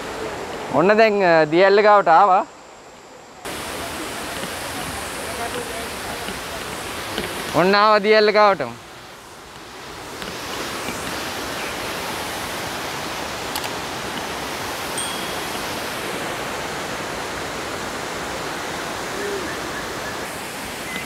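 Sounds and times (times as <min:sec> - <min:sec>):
waterfall rushing into pool: 0:03.4 - 0:21.0.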